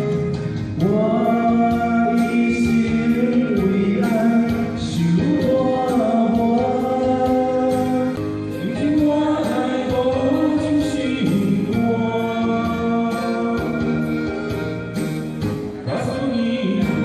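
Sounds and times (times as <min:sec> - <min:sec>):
backing track with steady beat: 0:00.0 - 0:17.0.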